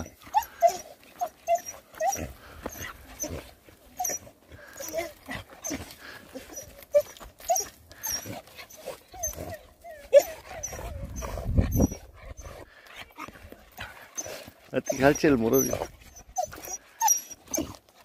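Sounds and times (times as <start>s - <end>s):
dog whining: 0.0s - 12.6s, 13.2s - 17.8s.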